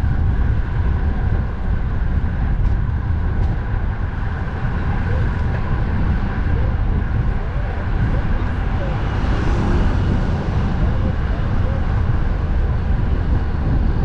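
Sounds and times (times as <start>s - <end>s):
road traffic noise: 0.0s - 14.0s
wind buffeting the microphone: 0.0s - 14.0s.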